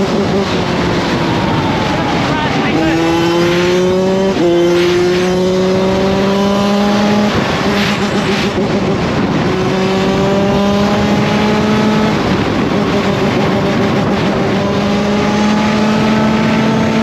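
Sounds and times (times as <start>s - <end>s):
dirt bike engine revving: 0.0s - 17.0s
wind rush: 0.0s - 17.0s.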